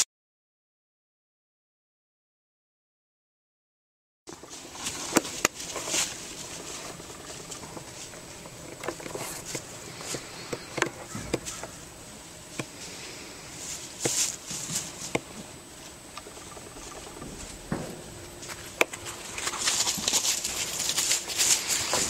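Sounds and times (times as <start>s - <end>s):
rustling in dry leaves: 4.3s - 22.0s
steady hiss: 4.3s - 22.0s.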